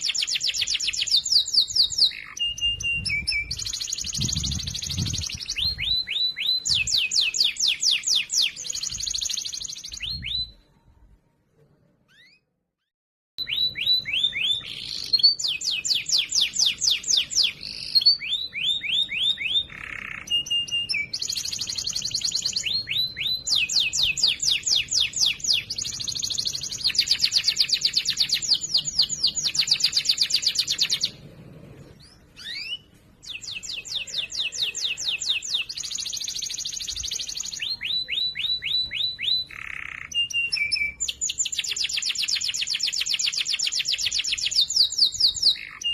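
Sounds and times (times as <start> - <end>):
canary singing trills: 0.0 - 10.7, 13.4 - 45.9.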